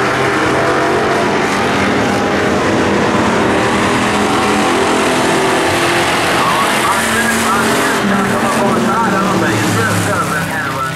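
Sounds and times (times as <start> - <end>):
race car engines droning: 0.0 - 10.9.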